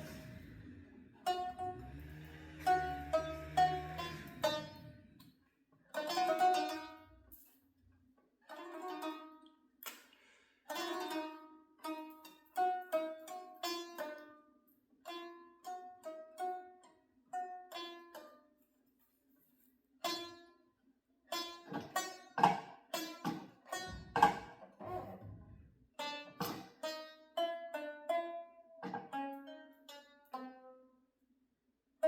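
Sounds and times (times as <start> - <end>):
plucked string instrument: 0.0 - 7.6, 8.4 - 10.0, 10.7 - 18.6, 20.0 - 20.7, 21.3 - 31.0.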